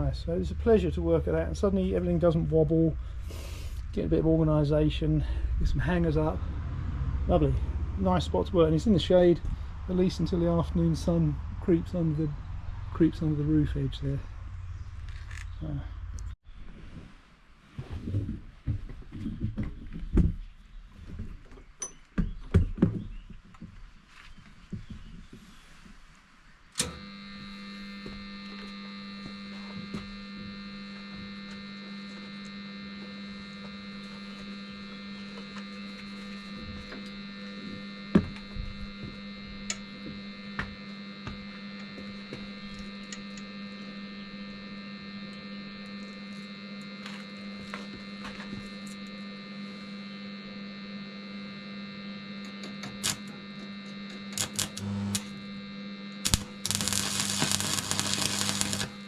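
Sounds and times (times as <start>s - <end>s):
machine electrical hum: 0.0s - 16.7s, 26.7s - 59.0s.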